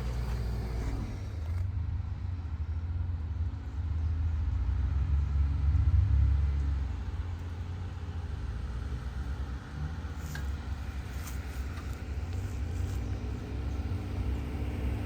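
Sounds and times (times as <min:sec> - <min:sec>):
engine rumbling at low speed: 0:00.0 - 0:15.0.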